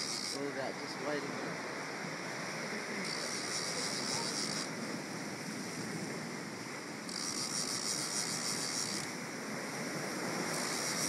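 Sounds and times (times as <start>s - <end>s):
waves breaking against rocks: 0.0s - 11.0s
wind on microphone: 0.0s - 11.0s.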